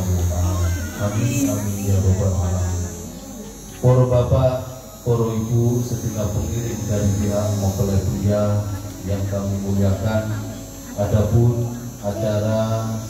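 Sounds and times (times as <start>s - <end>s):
loud mains hum: 0.0s - 13.0s
man speaking through loudspeakers: 0.0s - 13.0s.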